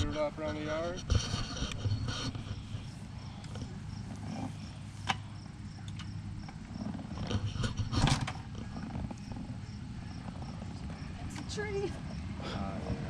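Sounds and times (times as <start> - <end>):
dirt bike being kick-started: 0.0 - 11.6.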